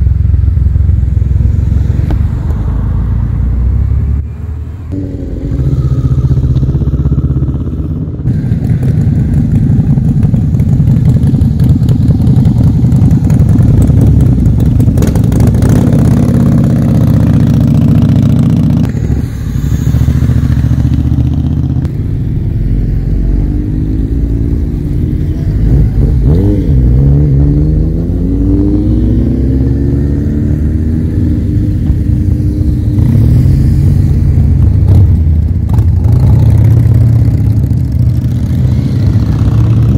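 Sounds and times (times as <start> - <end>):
motorcycles accelerating past: 4.9 - 21.9, 22.7 - 39.9.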